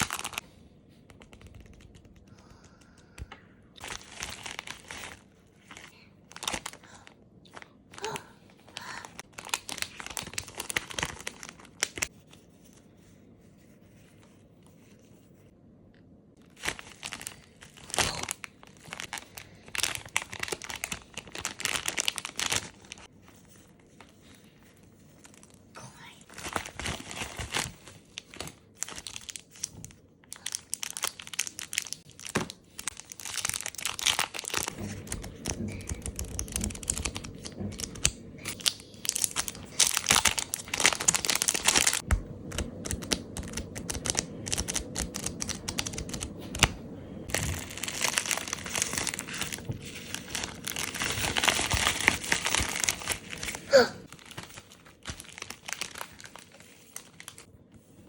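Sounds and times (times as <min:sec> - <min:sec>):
plastic sheets crinkling: 0:00.0 - 0:00.4, 0:03.2 - 0:12.7, 0:16.4 - 0:58.0.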